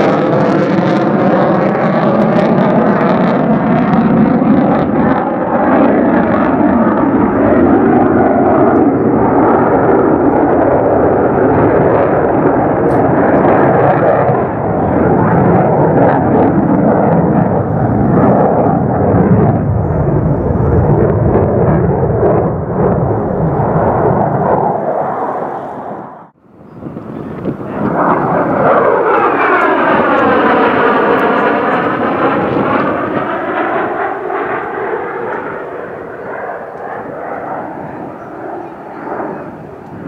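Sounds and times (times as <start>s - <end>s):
jet engine rumble overhead: 0.0s - 40.0s.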